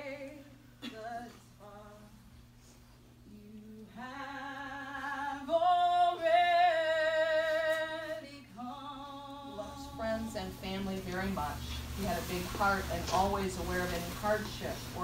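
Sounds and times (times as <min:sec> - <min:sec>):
woman singing with vibrato: 0:00.0 - 0:02.3, 0:03.2 - 0:15.0.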